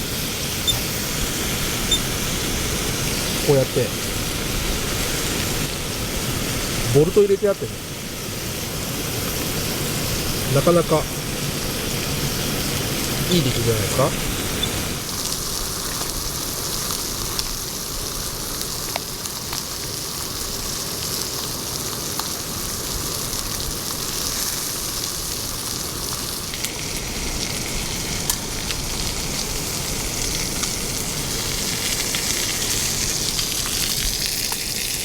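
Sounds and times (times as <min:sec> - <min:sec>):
steak sizzling in a pan: 0:00.0 - 0:35.0.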